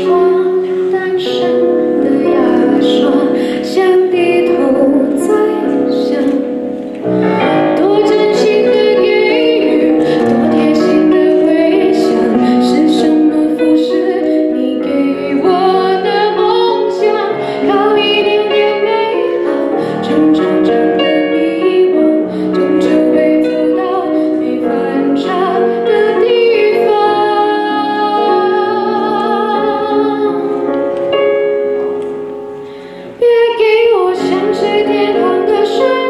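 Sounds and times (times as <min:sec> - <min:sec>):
instrumental accompaniment: 0:00.0 - 0:36.0.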